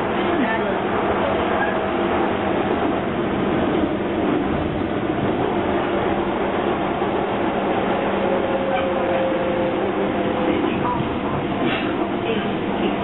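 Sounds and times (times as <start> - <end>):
train wheel and running noise: 0.0 - 13.0.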